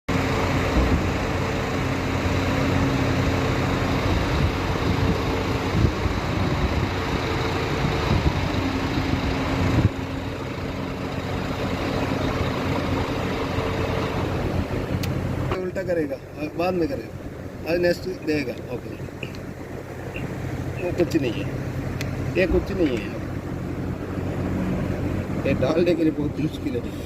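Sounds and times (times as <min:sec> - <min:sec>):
engine idling: 0:00.1 - 0:27.0.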